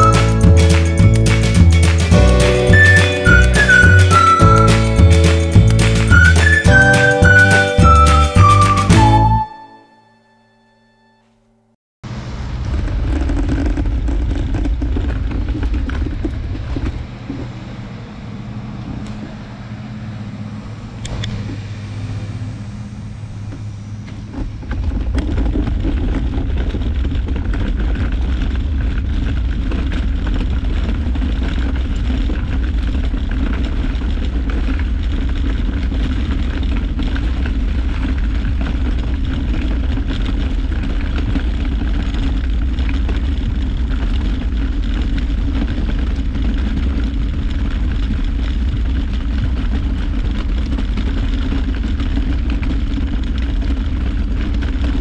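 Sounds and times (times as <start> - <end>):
wagon wheels rolling over asphalt: 0.0 - 9.5, 12.1 - 21.6, 23.2 - 55.0.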